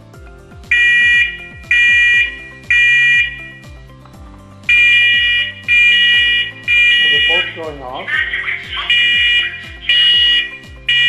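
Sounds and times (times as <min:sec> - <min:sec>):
background music: 0:00.0 - 0:11.0
smoke alarms beeping: 0:00.7 - 0:03.9, 0:04.7 - 0:07.7, 0:08.3 - 0:11.0.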